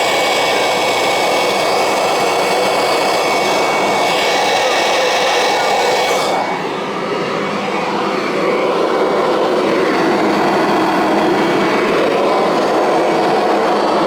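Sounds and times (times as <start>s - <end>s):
upright vacuum cleaner running: 0.0s - 14.0s.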